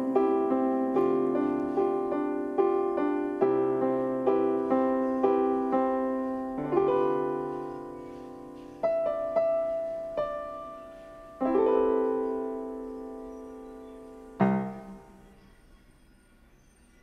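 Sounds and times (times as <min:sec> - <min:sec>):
electronic keyboard piano chords: 0:00.0 - 0:16.0.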